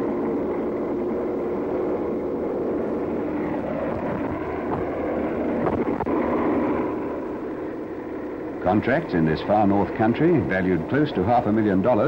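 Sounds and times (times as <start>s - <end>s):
bulldozer engine drone: 0.0s - 12.0s.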